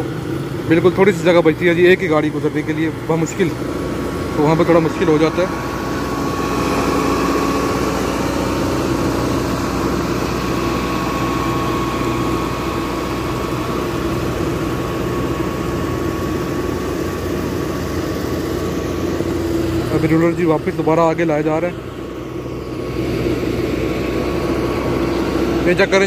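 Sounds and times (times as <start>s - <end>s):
diesel engine running: 0.0s - 26.0s
steady high whine: 0.0s - 26.0s.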